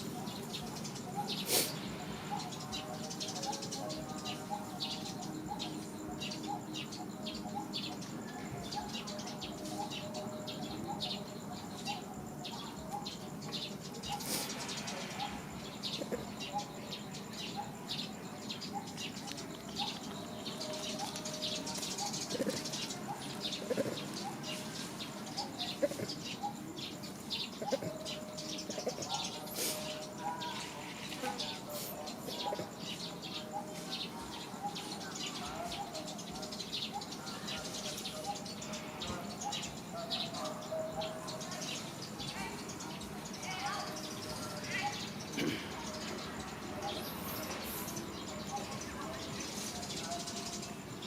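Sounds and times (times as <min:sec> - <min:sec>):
birds chirping and calling: 0:00.0 - 0:51.0.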